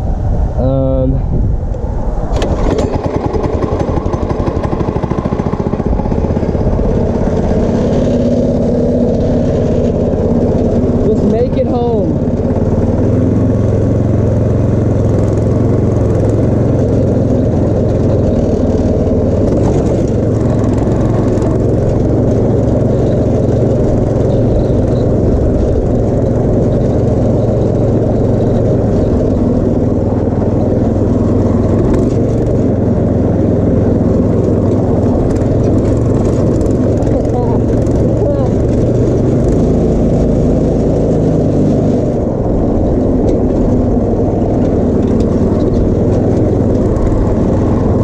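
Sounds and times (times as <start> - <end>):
go-kart engine running: 0.0 - 48.0.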